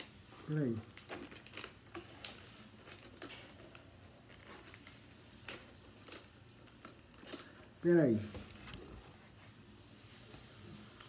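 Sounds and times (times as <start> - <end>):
wrapper clicks and rustles: 0.0 - 9.3.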